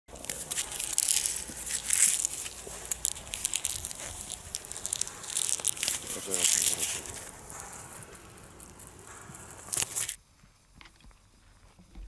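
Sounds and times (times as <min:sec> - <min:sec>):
paper rustling and crinkling: 0:00.1 - 0:10.2
small crackles: 0:00.1 - 0:10.2.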